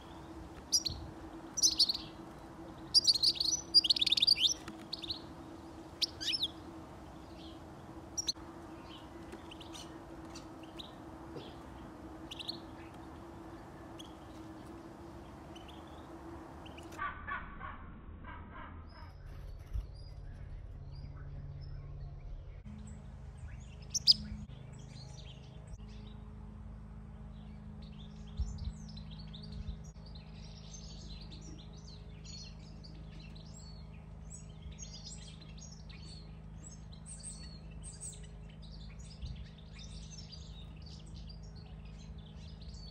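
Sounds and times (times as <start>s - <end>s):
songbirds chirping: 0.0s - 17.0s, 18.9s - 42.9s
faint hum: 0.0s - 42.9s.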